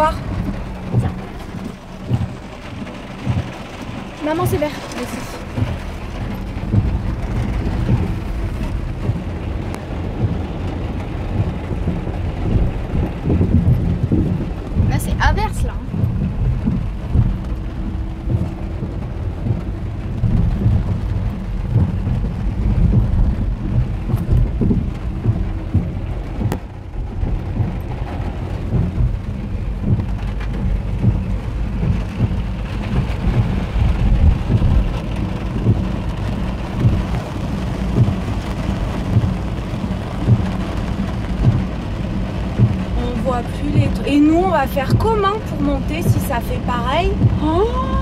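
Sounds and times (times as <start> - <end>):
heavy rain on car roof: 0.0 - 48.0.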